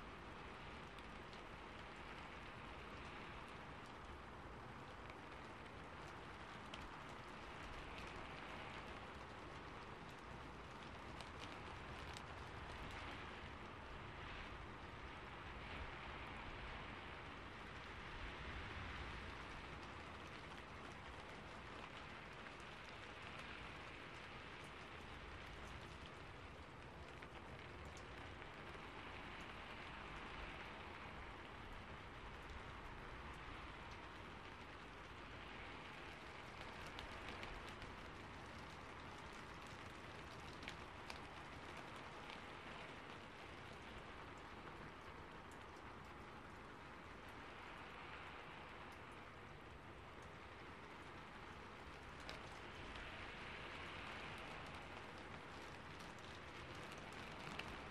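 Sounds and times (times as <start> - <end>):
rain on a roof: 0.0 - 57.9.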